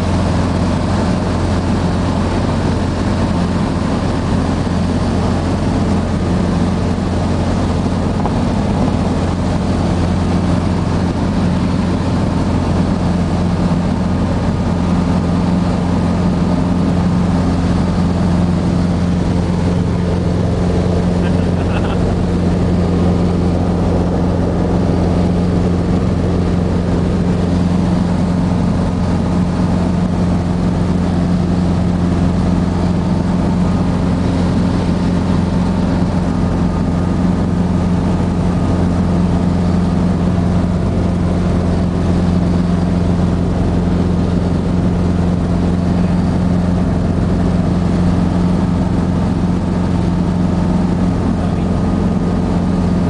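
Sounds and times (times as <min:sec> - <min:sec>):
helicopter engine and rotor drone: 0:00.0 - 0:53.0.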